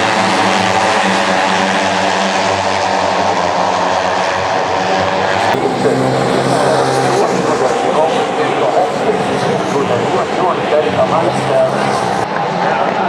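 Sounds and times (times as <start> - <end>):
loud engine drone: 0.0 - 12.5.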